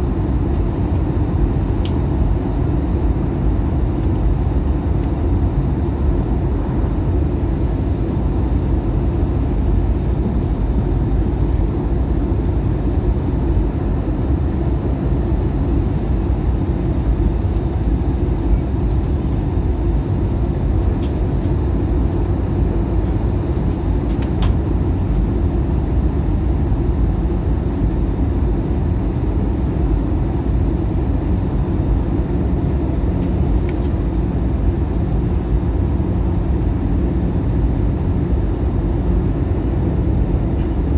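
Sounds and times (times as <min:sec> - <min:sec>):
airplane cabin rumble: 0:00.0 - 0:40.9.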